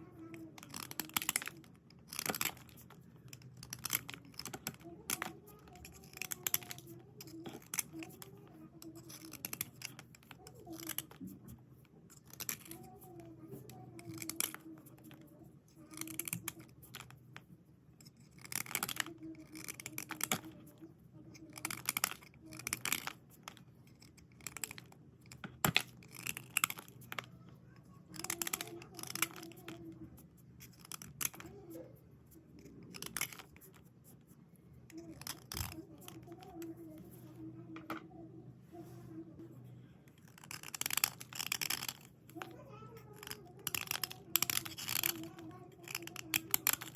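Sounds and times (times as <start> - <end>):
slate pencils scraping: 0.0 - 17.2, 18.0 - 37.6, 38.7 - 46.9.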